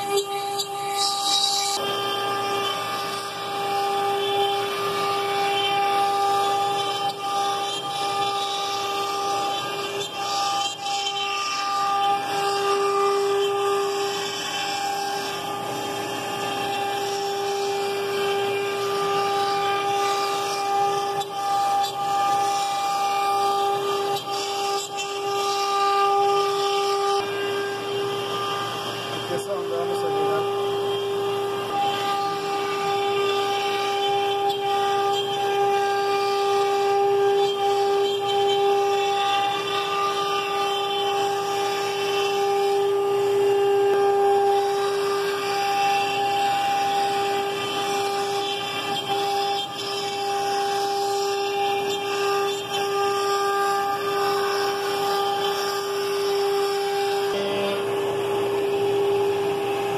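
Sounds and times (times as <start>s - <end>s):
router cutting plywood: 0.0s - 59.9s
vacuum pump high whine: 0.0s - 59.9s.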